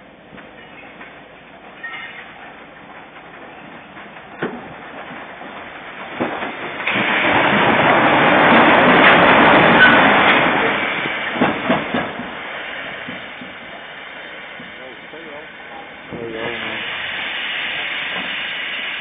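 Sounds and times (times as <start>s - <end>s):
railcar wheels on rails: 0.0s - 19.0s.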